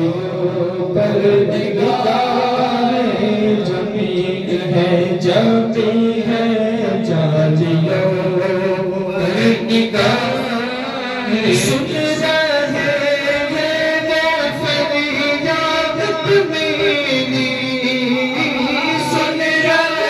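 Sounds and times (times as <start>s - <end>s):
men chanting into microphones: 0.0s - 20.0s.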